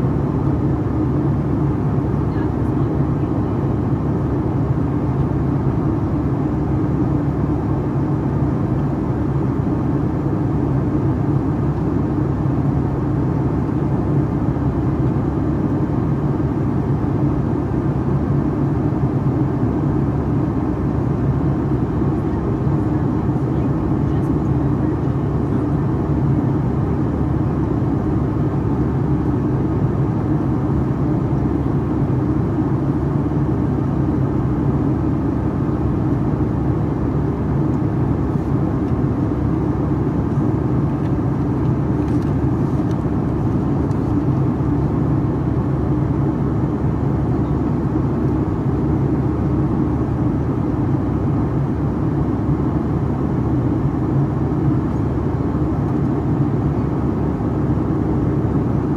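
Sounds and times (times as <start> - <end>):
jet engines droning in cabin: 0.0 - 58.9.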